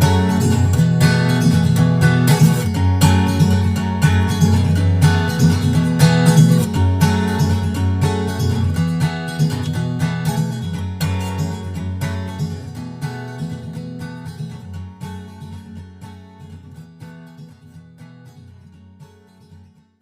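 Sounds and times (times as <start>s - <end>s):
strummed guitar music: 0.0s - 20.0s.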